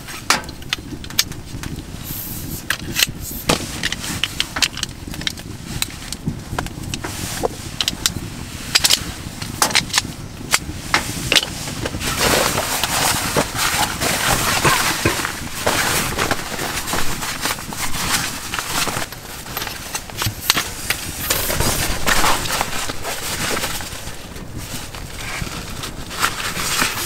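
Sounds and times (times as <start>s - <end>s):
canvas fabric rustling: 3.2s - 9.4s, 10.7s - 27.0s.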